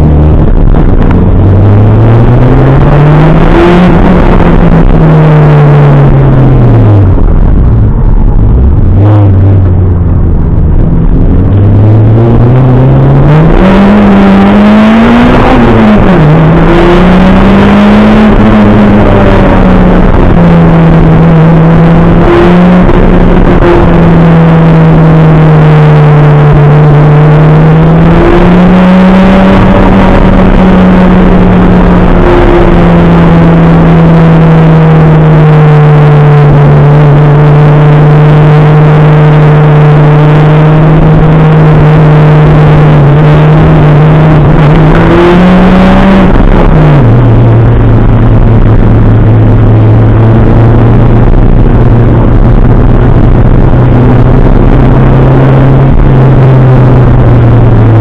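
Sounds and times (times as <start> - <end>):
car engine from inside cabin: 0.0 - 58.0.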